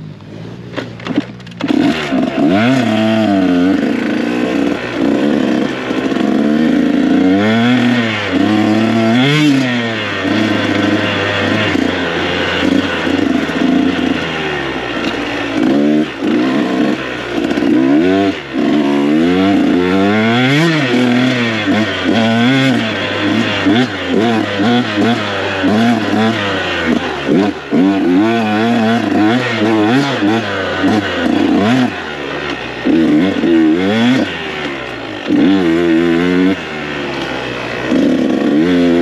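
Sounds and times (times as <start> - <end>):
two-stroke dirt bike engine revving: 0.0 - 39.0.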